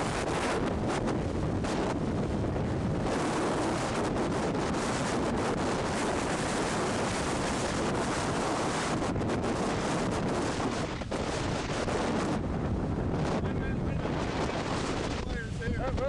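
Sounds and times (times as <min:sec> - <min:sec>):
wind blasting microphone: 0:00.0 - 0:16.0.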